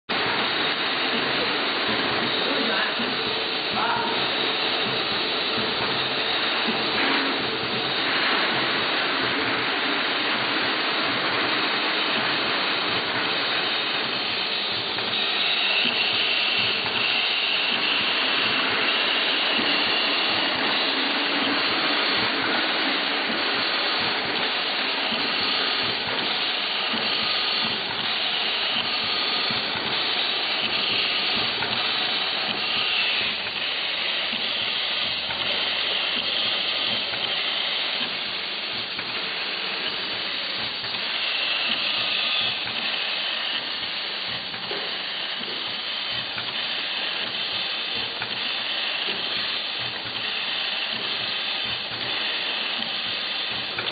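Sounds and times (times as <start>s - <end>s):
tapping machine running: 0.1s - 53.9s.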